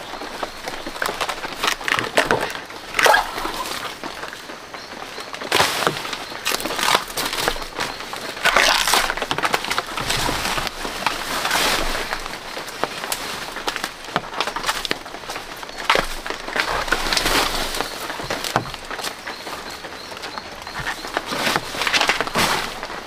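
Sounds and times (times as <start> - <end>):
dry leaves rustling: 0.0 - 23.0
twigs snapping: 0.2 - 4.4, 5.4 - 23.0.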